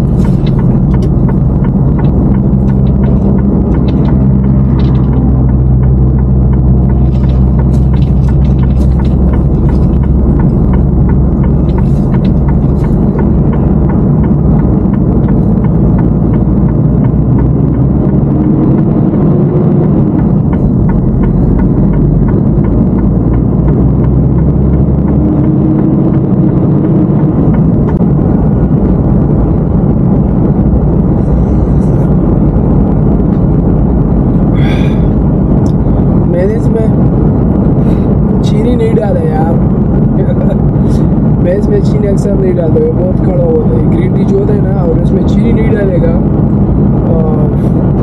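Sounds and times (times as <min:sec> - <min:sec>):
truck engine and road rumble: 0:00.0 - 0:48.0.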